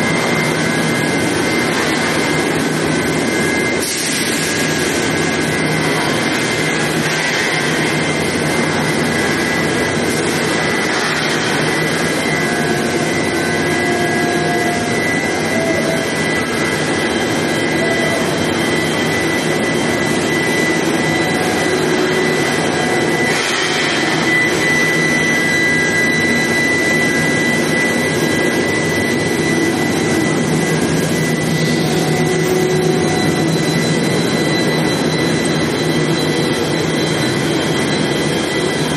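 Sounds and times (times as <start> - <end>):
high-pitched machine whine: 0.0 - 38.9
machine roar: 0.0 - 38.9.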